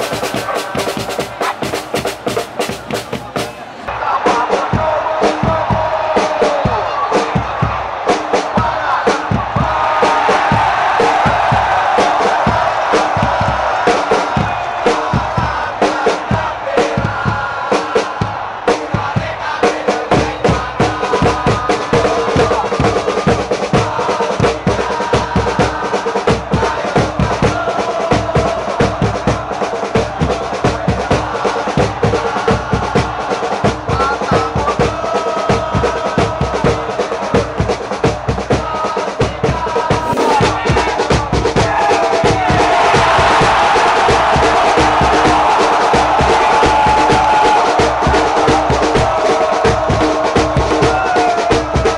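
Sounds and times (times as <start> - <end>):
crowd shouting: 0.0 - 37.6, 38.5 - 51.9
football supporters chanting: 0.0 - 51.9
supporters' drums beating: 0.0 - 51.9.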